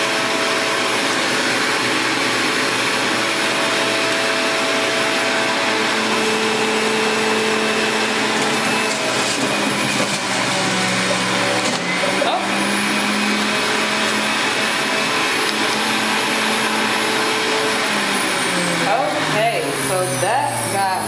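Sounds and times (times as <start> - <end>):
juicer running: 0.0 - 21.0.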